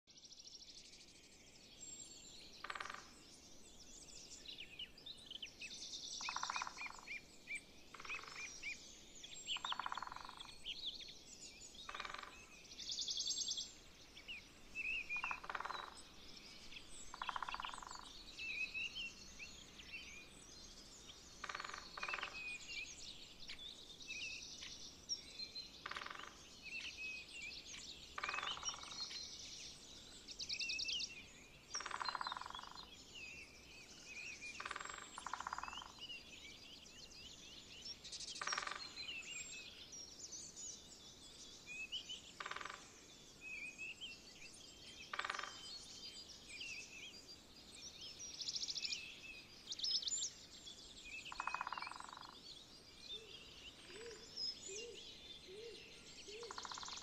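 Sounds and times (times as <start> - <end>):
small birds chirping and trilling: 0.1 - 57.0.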